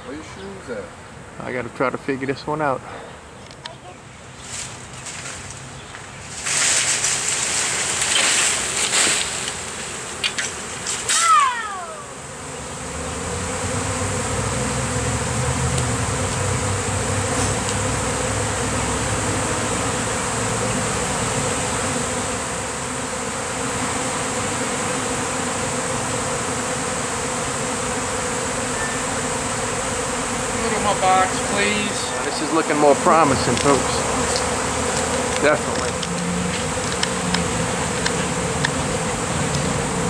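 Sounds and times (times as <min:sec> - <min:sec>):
bee swarm buzzing: 0:00.0 - 0:40.0.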